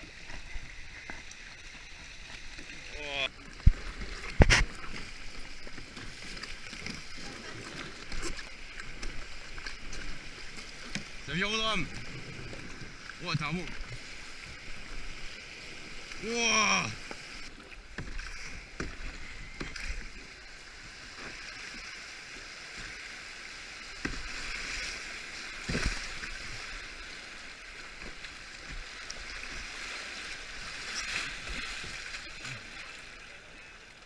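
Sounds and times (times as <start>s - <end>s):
paddle strokes in water: 0.0s - 34.0s
river water rushing and splashing: 0.0s - 34.0s.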